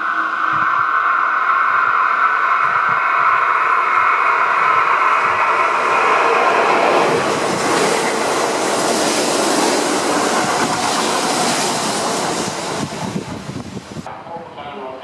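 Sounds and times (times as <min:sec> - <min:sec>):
train passing at speed: 0:00.0 - 0:14.8.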